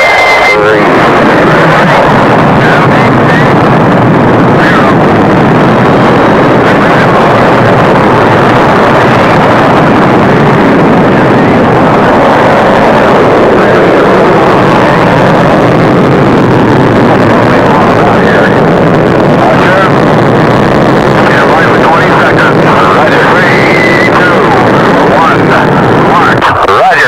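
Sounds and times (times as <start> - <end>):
rocket engines roaring: 0.0 - 27.0.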